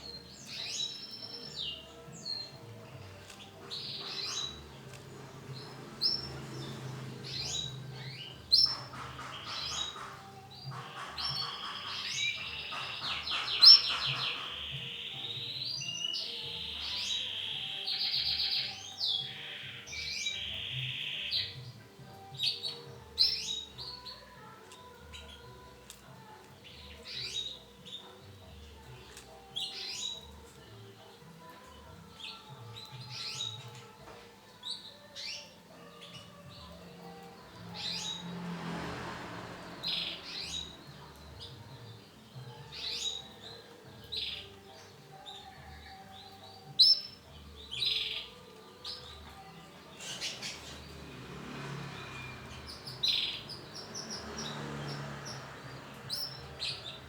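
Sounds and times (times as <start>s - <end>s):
canaries chirping and trilling: 0.0s - 57.0s.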